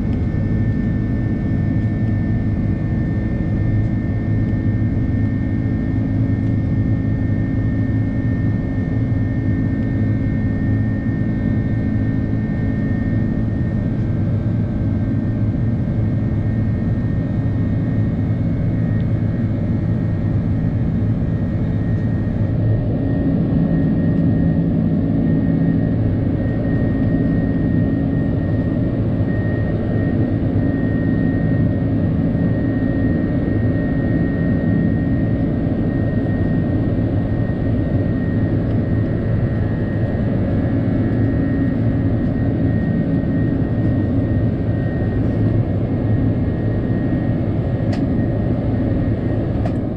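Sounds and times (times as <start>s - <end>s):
jet engine drone in cabin: 0.0s - 49.9s.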